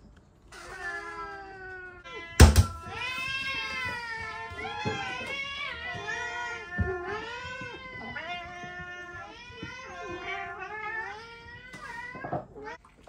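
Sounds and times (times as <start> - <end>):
cats meowing: 0.5 - 13.0.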